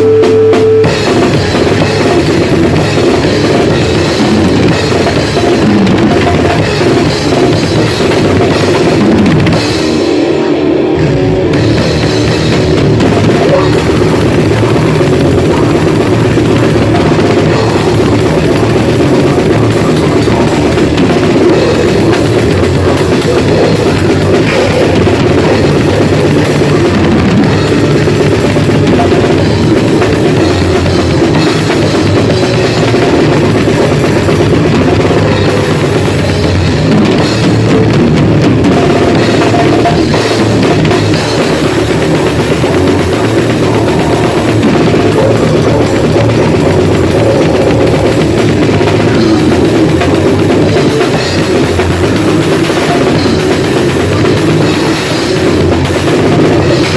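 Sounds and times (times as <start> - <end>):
fast pounding drums: 0.0 - 56.9
grindcore band playing: 0.0 - 56.9.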